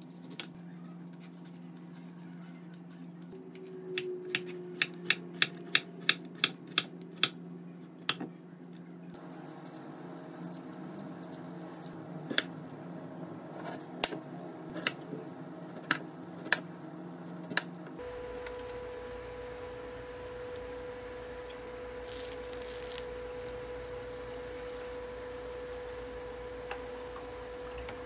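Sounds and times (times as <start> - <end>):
low hum: 2.6 - 28.0.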